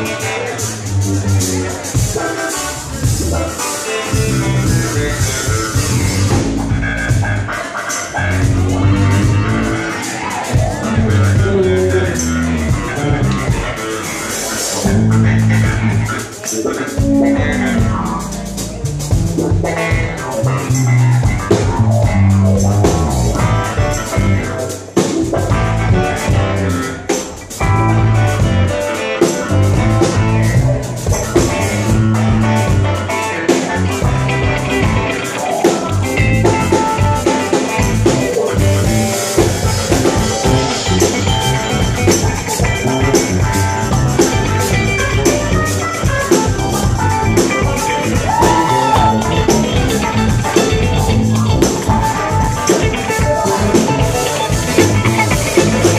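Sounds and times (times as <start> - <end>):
band playing live: 0.0 - 55.9
drum kit beat: 0.0 - 55.9
guitar: 0.0 - 55.9.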